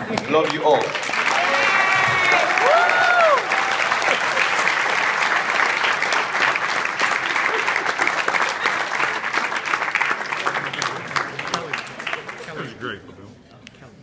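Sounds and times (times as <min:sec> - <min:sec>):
crowd applauding: 0:00.0 - 0:12.8.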